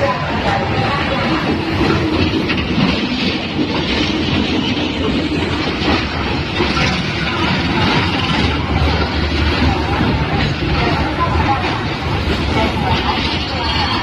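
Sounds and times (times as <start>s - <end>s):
train wagons rumbling: 0.0s - 14.0s
train wheels clicking on rails: 0.0s - 14.0s.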